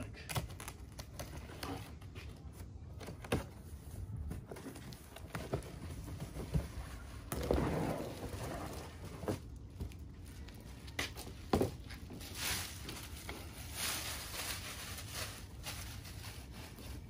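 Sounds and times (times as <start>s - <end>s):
rustle of cardboard and packing: 0.0s - 17.0s.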